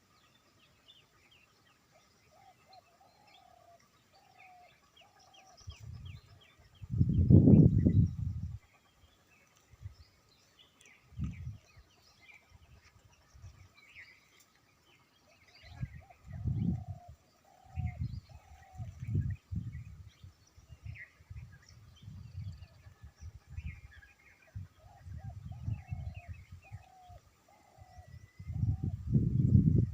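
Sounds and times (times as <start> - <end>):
birds chirping and twittering: 0.0 - 29.9.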